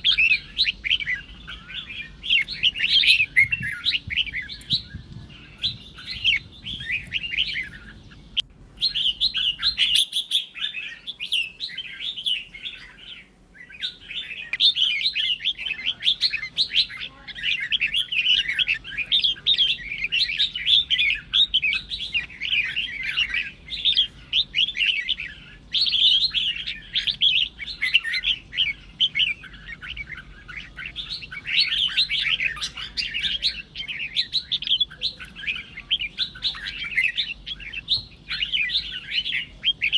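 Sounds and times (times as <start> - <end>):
bird chirping and warbling: 0.0 - 39.9.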